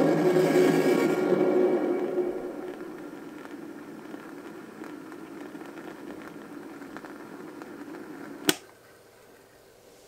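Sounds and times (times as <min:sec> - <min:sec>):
record hiss with crackles: 0:00.0 - 0:10.0.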